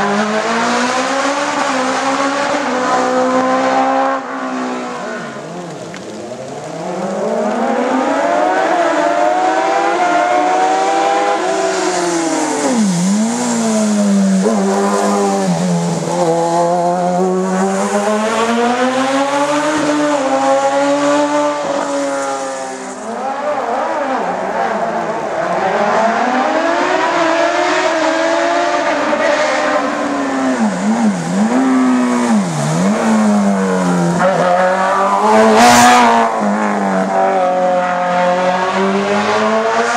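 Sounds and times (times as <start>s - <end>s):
race car engine accelerating: 6.7s - 39.9s.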